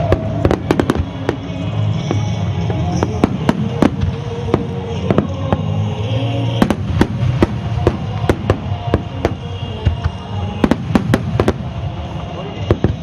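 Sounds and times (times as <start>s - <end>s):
music playing: 0.0s - 13.0s.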